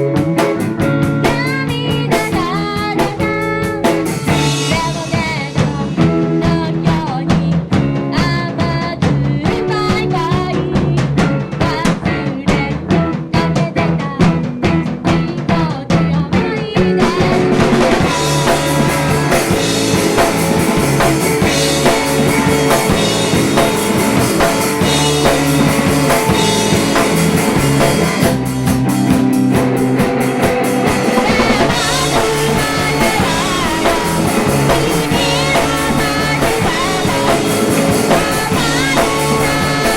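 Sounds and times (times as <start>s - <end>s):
drum rimshots and kick drum: 0.0s - 39.9s
indie rock band playing live: 0.0s - 39.9s
picked electric guitar notes: 0.0s - 39.9s.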